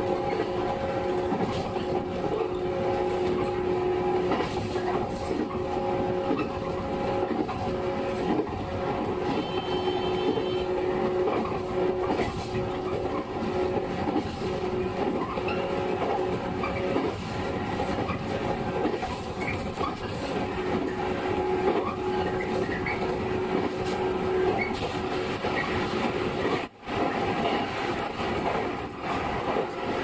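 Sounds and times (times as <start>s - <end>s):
rail-joint clicks: 0.0s - 30.0s
train hum: 0.0s - 30.0s
train wheels rumbling on rail: 0.0s - 30.0s.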